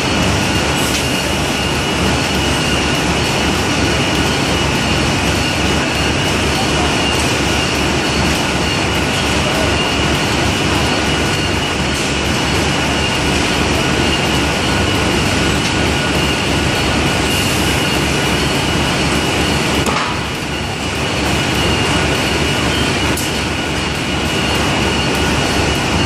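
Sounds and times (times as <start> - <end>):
constant high whine: 0.0 - 26.0
stacking machine and roller conveyors: 0.0 - 26.0.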